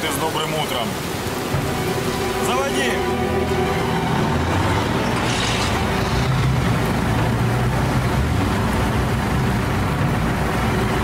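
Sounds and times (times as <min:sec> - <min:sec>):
heavy vehicle engines droning: 0:00.9 - 0:11.0.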